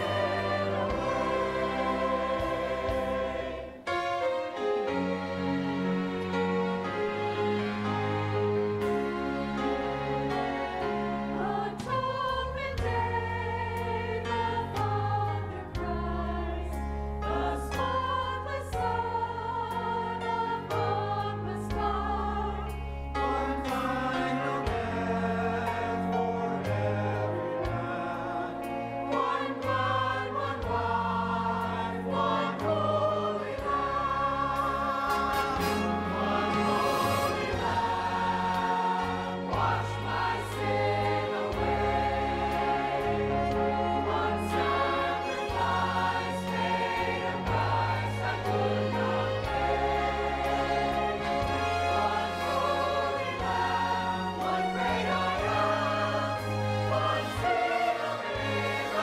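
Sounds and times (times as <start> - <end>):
church choir singing: 0.0 - 59.0
instrumental accompaniment: 0.0 - 59.0.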